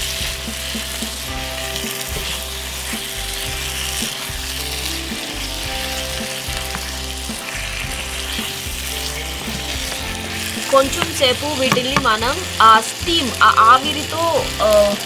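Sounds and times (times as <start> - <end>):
potatoes sizzling in a pan: 0.0 - 15.0.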